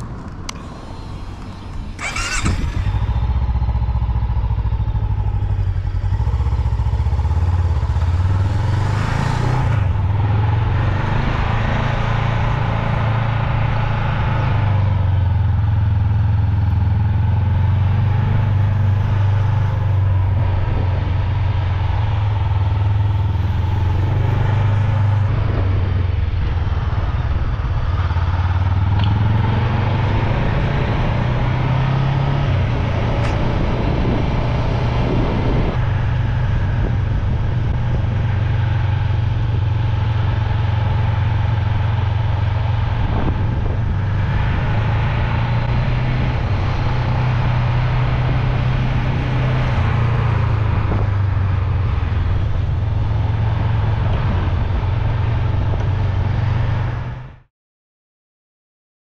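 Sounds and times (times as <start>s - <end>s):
motorcycle engine droning: 0.0s - 57.5s
wind and road noise: 0.0s - 57.5s.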